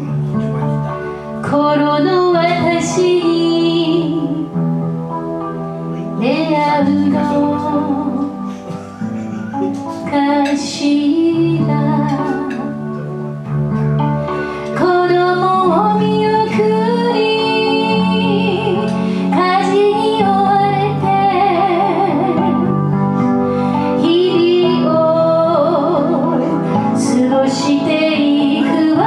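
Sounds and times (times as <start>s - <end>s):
acoustic guitar: 0.0s - 29.0s
keyboard: 0.0s - 29.0s.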